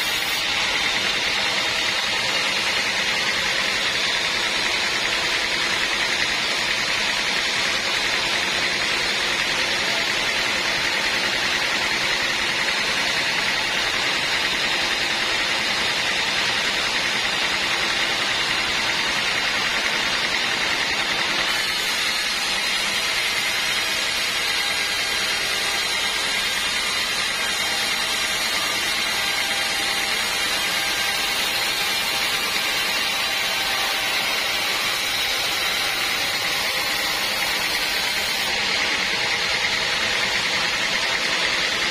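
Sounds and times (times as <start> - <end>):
bandsaw running: 0.0 - 41.9.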